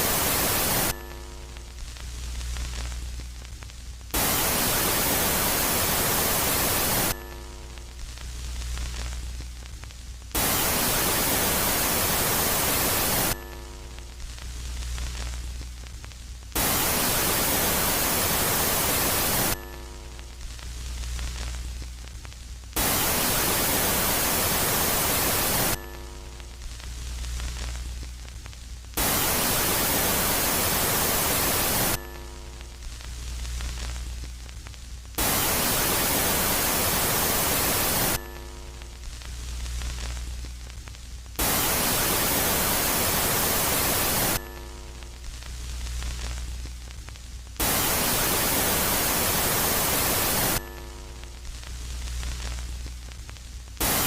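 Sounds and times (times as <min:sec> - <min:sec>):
loud static hiss: 0:00.0 - 0:54.0
low hum with faint tones: 0:00.0 - 0:54.0.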